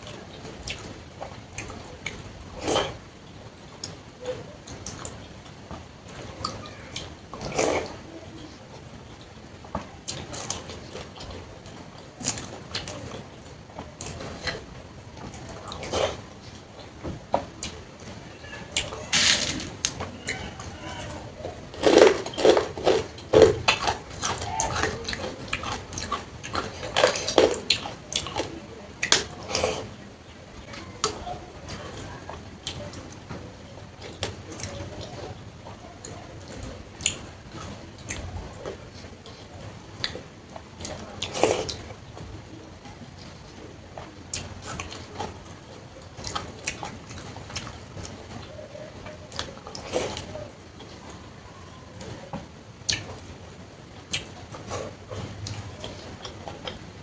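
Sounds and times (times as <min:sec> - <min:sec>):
wet chewing and lip-smacking: 0:00.1 - 0:08.1, 0:08.7 - 0:33.3, 0:33.9 - 0:57.0.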